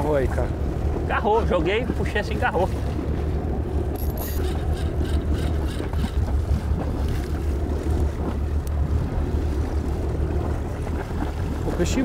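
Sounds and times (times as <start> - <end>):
boat engine running: 0.0 - 12.0
wind rumbling on microphone: 0.0 - 12.0.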